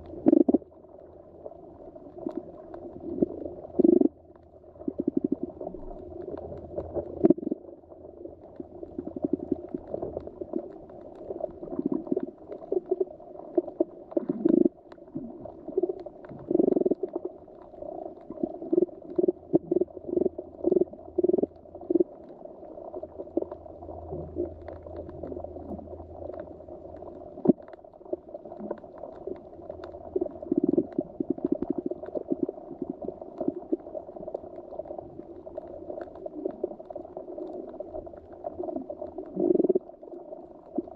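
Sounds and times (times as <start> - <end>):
bubbling and gurgling: 0.0 - 40.9
muffled underwater ambience: 0.0 - 40.9.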